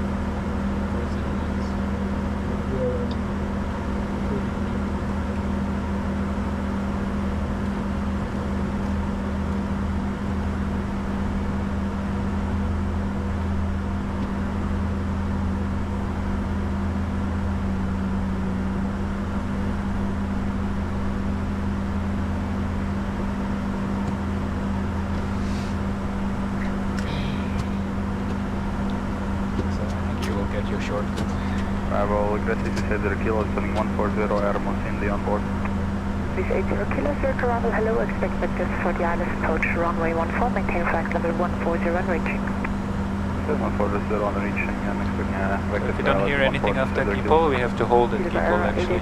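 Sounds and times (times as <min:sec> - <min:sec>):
constant low hum: 0:00.0 - 0:49.0.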